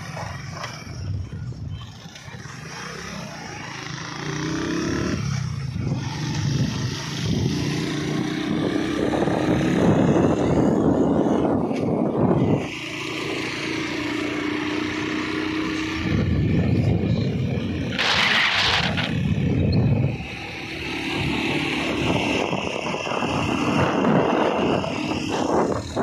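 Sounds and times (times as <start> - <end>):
wind rush on microphone: 0.0 - 2.0, 5.0 - 26.0.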